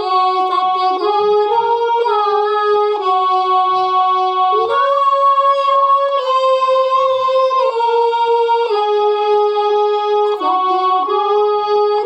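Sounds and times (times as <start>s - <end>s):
keyboard instrument melody: 0.0s - 12.0s.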